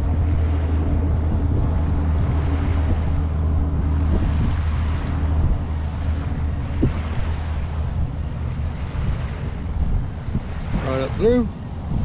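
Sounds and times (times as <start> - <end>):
low mechanical hum: 0.0 - 12.0
small waves washing ashore: 0.0 - 12.0
wind buffeting microphone: 0.0 - 12.0.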